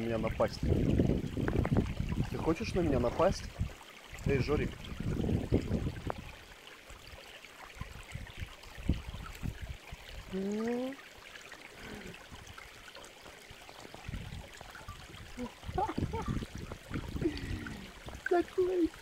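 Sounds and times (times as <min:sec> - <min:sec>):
mountain stream trickling and gurgling: 0:00.0 - 0:19.0.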